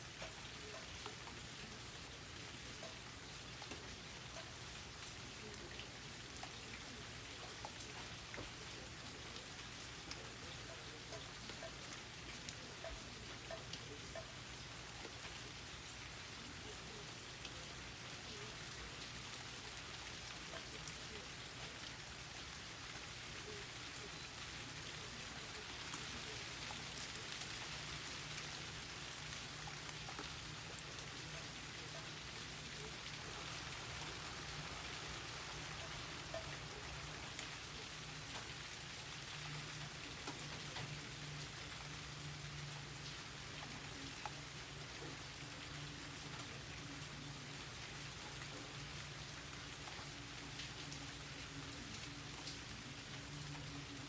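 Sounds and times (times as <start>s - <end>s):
raindrops ticking on surfaces: 0.0s - 54.0s
steady rain hiss: 0.0s - 54.0s.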